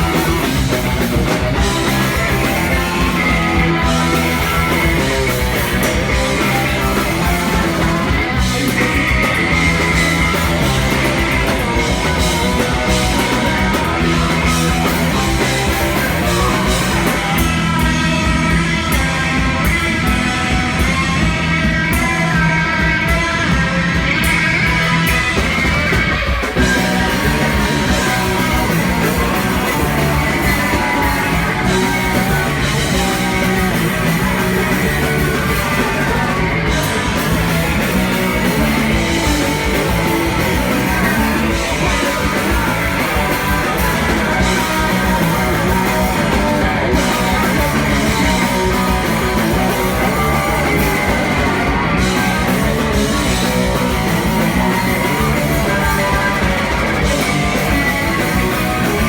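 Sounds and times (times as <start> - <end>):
drums: 0.0 - 59.0
electric guitars: 0.0 - 59.0
punk rock band playing live: 0.0 - 59.0.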